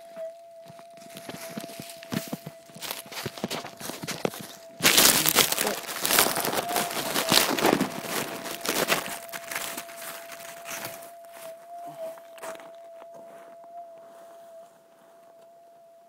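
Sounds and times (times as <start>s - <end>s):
dry leaves and twigs crackling: 0.0s - 15.5s
metal detector hum: 0.0s - 16.0s.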